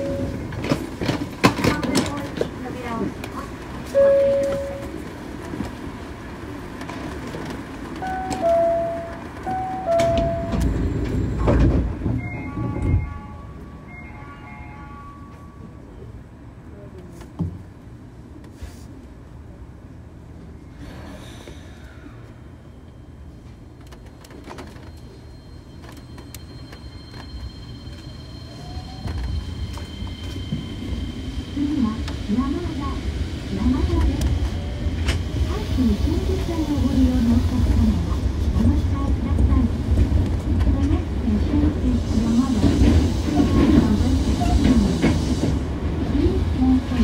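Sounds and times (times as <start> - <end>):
high train whine: 0.0 - 16.9, 19.2 - 47.0
train rumble: 0.0 - 47.0.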